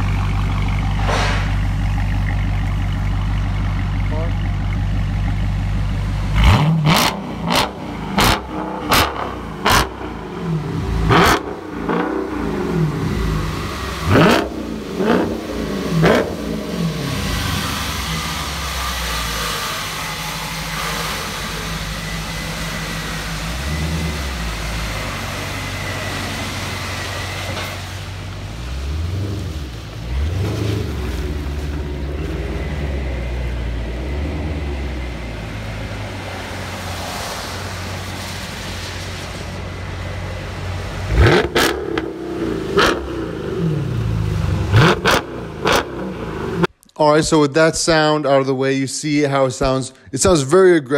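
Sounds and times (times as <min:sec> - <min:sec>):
car engine idling and revving: 0:00.0 - 0:46.8.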